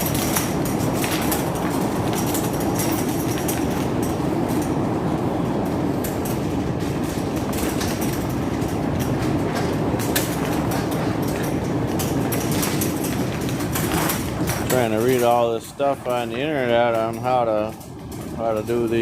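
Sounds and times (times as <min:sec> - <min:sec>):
small clicks and rattles: 0:00.0 - 0:19.0
wind buffeting microphone: 0:00.0 - 0:19.0.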